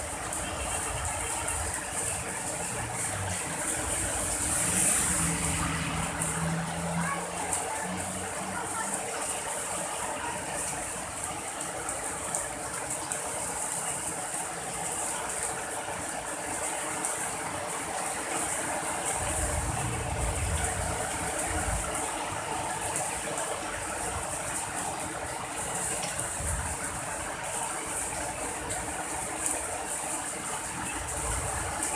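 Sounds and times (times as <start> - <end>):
steady rain falling: 0.0 - 31.9.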